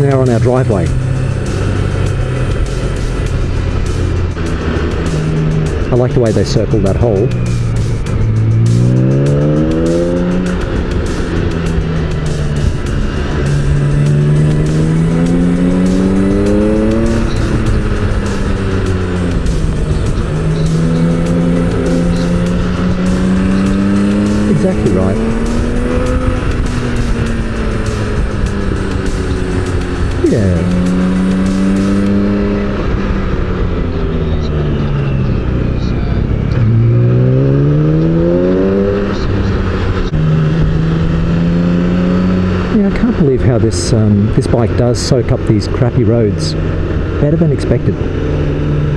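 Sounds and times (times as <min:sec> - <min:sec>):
motorcycle engine accelerating: 0:00.0 - 0:48.9
wind and road noise: 0:00.0 - 0:48.9.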